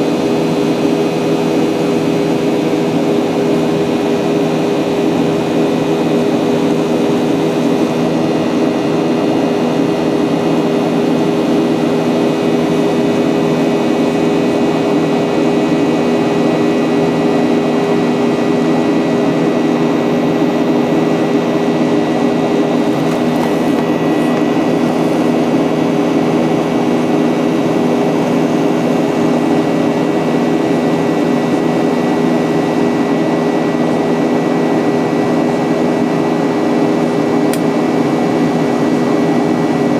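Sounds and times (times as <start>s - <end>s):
airliner cabin engine hum: 0.0s - 39.9s.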